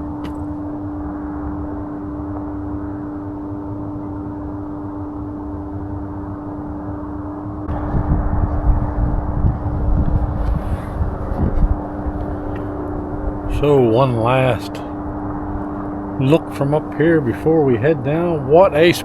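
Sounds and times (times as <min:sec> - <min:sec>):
constant low hum: 0:00.0 - 0:19.0
wind rumbling on microphone: 0:00.0 - 0:19.0.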